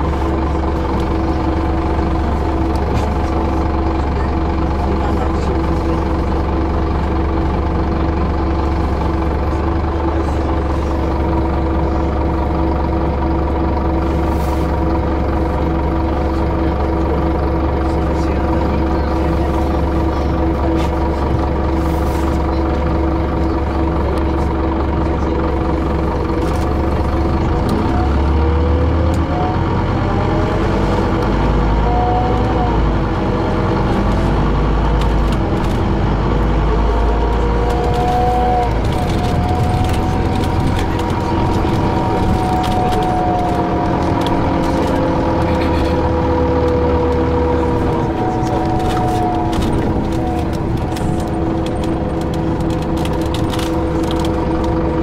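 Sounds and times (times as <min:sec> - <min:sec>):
bus engine idling and accelerating: 0:00.0 - 0:55.0.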